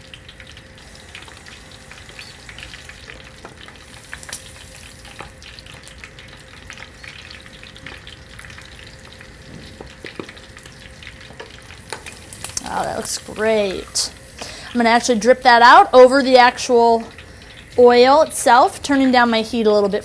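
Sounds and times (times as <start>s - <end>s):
shrimp deep-frying in oil: 0.0s - 20.0s.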